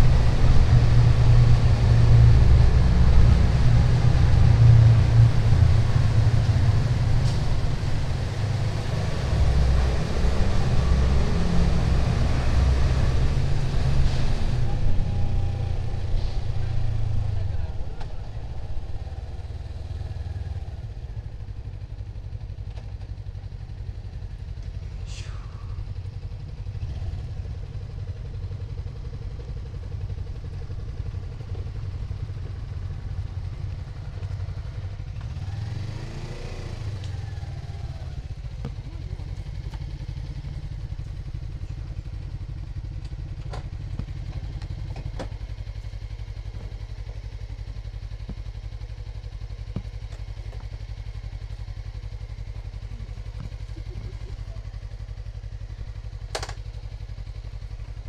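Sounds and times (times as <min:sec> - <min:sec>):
motorcycle engine running at low revs: 0:00.0 - 0:58.0.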